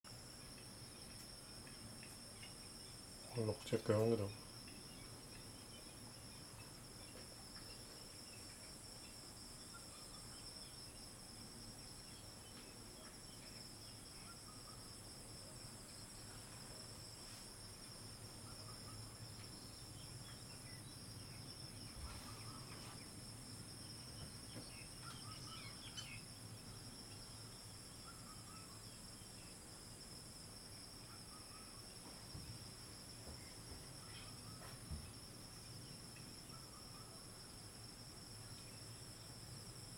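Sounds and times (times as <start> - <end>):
faint insect chirps: 0.1 - 39.9
insect chorus trilling: 0.1 - 39.9.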